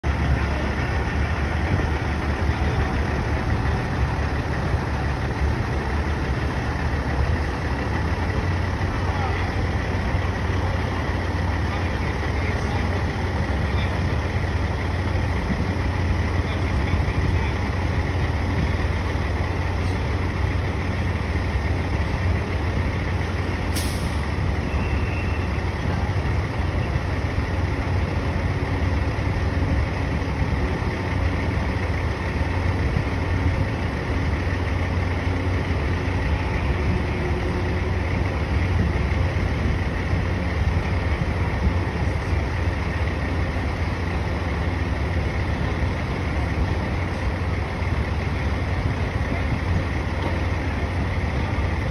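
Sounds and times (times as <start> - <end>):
city street noise: 0.0 - 51.9
diesel engines rumbling: 0.0 - 51.9.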